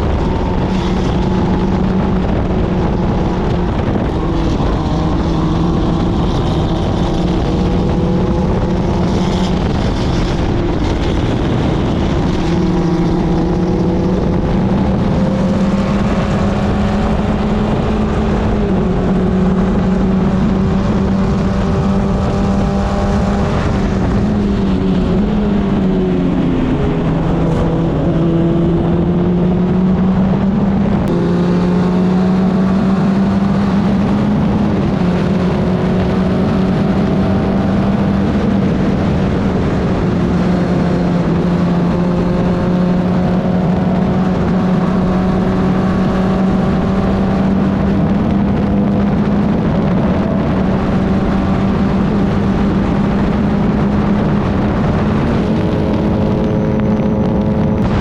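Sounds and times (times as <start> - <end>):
race car engine revving: 0.0 - 58.0
wind rushing: 0.0 - 58.0.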